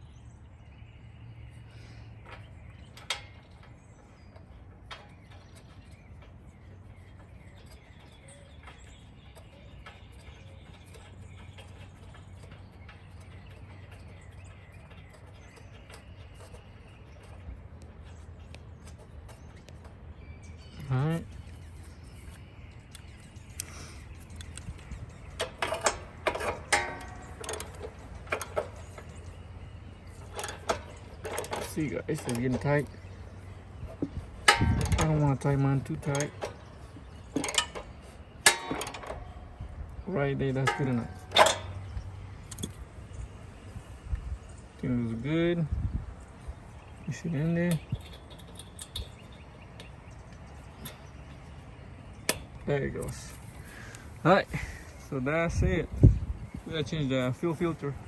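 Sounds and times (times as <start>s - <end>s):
hand tools clicking on engine: 1.4s - 45.0s, 46.8s - 58.0s.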